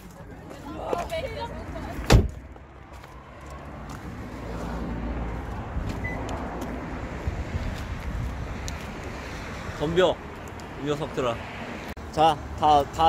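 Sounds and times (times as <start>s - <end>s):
motor vehicle rumble: 0.0s - 13.0s
road traffic noise: 0.0s - 13.0s.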